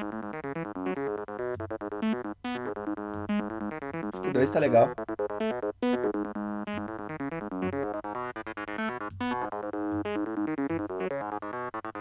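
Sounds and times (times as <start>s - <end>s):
pulsing bass notes: 0.0s - 11.7s
synth arpeggio: 0.0s - 12.0s.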